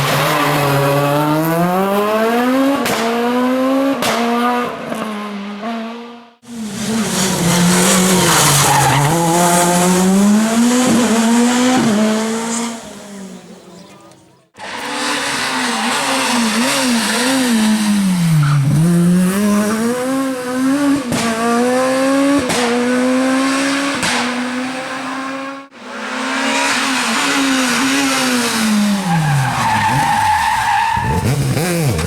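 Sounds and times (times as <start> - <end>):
rally car engine at full throttle: 0.0 - 32.0.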